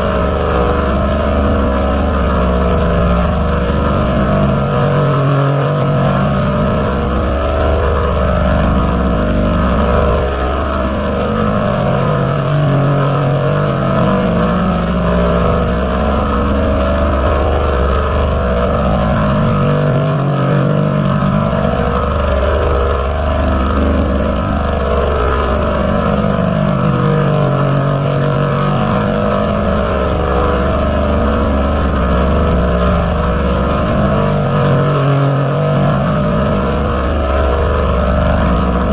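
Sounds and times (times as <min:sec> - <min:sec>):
distorted pitch-shifted audio din: 0:00.0 - 0:38.9
low hum: 0:00.0 - 0:38.9.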